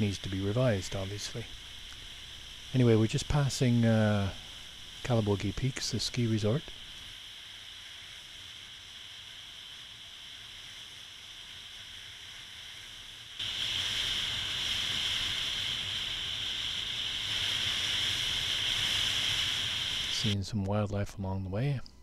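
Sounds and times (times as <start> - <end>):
tyres hissing on wet pavement: 0.0 - 20.4.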